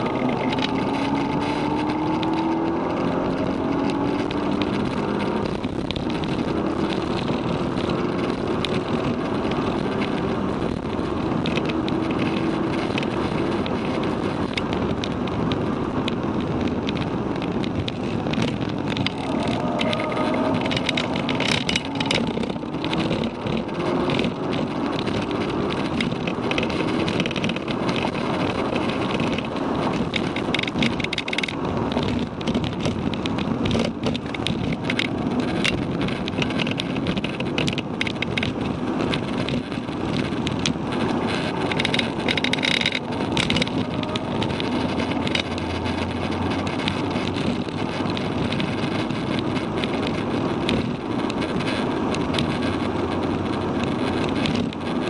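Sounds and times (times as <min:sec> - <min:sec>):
car engine under load: 0:00.0 - 0:55.0
small clicks and rattles: 0:00.0 - 0:55.0
tyre and road noise: 0:00.0 - 0:55.0.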